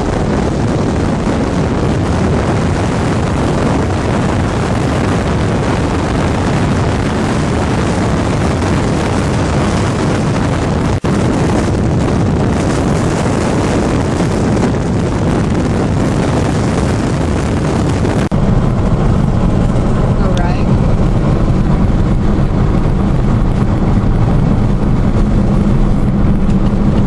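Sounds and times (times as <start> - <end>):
wind and road noise roaring: 0.0 - 27.0.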